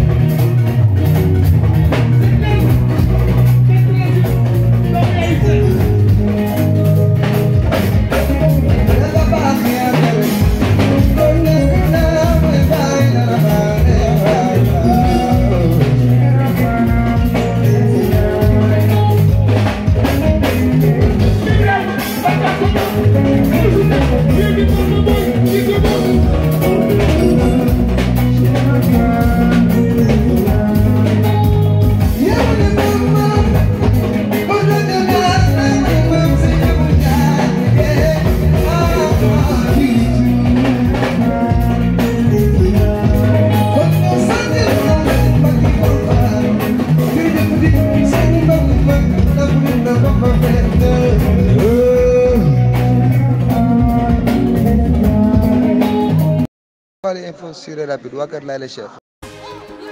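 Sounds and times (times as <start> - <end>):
live band drums and percussion: 0.0 - 56.5
man singing: 1.7 - 56.5.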